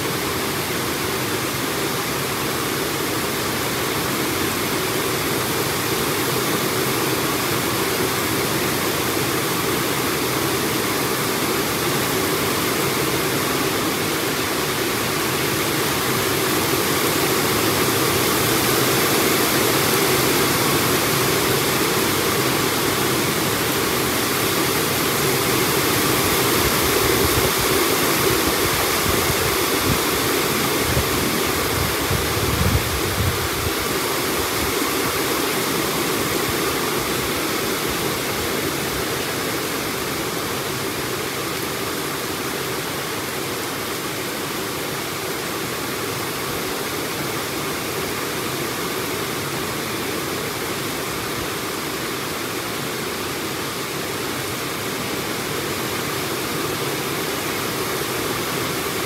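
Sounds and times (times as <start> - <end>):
heavy rain in strong wind: 0.0 - 59.0.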